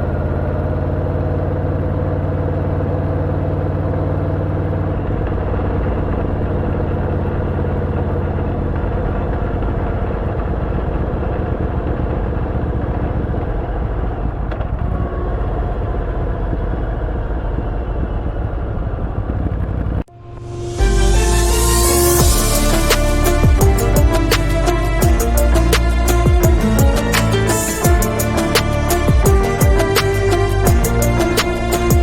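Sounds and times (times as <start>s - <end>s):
motorcycle engine running: 0.0s - 20.4s, 22.2s - 32.0s.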